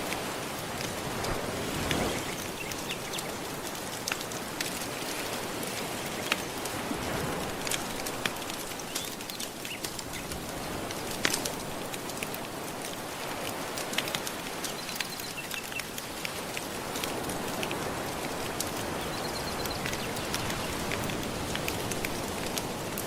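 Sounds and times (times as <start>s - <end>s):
soft ocean waves: 0.0s - 23.0s
wood fire crackling: 0.0s - 23.0s.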